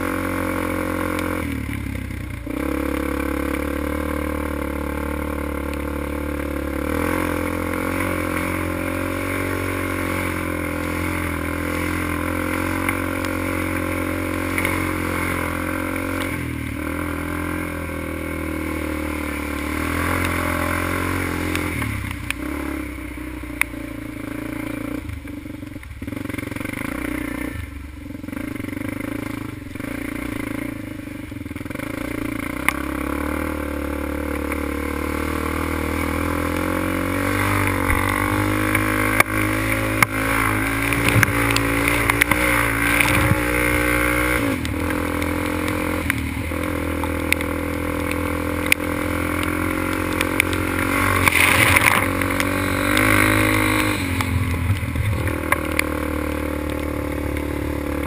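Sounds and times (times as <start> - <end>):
quad engine revving: 0.0 - 58.0
rush of riding noise: 0.0 - 58.0.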